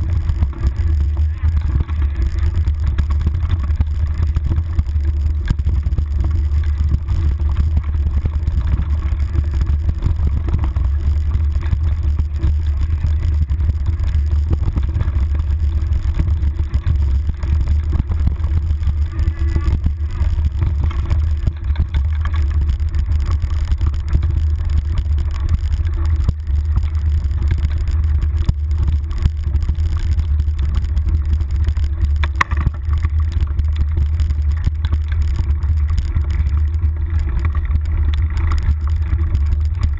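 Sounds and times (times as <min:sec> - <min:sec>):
bike rattles and knocks: 0:00.0 - 0:39.9
wind and vibration rumble: 0:00.0 - 0:39.9.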